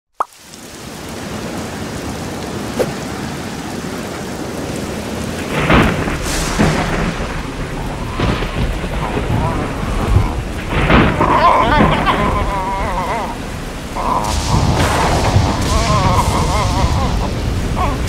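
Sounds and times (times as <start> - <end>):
steady rain: 0.1 - 18.0
thunder rumbling: 0.6 - 18.0.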